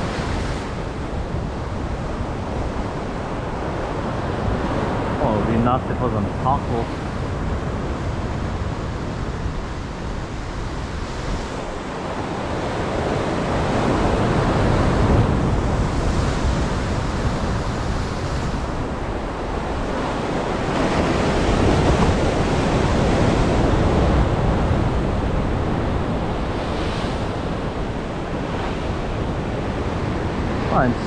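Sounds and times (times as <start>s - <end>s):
ocean surf washing ashore: 0.0s - 31.0s
wind on microphone: 0.0s - 31.0s.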